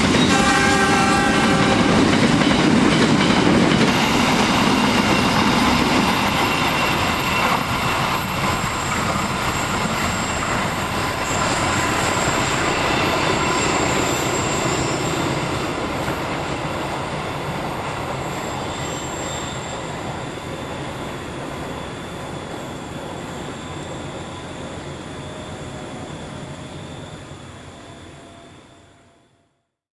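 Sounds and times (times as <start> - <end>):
train wheels on rails: 0.0 - 29.4
high wheel squeal: 3.9 - 29.3.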